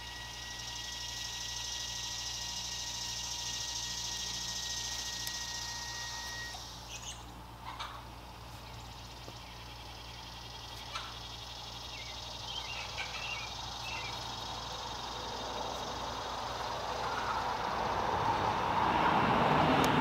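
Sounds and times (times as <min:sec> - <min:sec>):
small birds chirping: 0:00.0 - 0:18.2
outdoor hiss: 0:00.0 - 0:18.9
low hum: 0:00.0 - 0:20.0.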